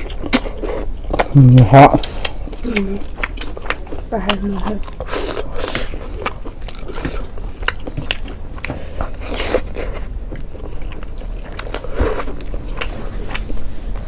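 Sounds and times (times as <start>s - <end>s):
chewing with wet mouth clicks: 0.0s - 13.7s
steady low hum: 0.0s - 14.0s.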